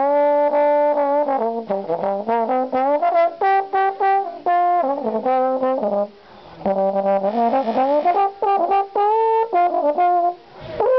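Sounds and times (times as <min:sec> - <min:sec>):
brass instrument jazzy melody: 0:00.0 - 0:10.9.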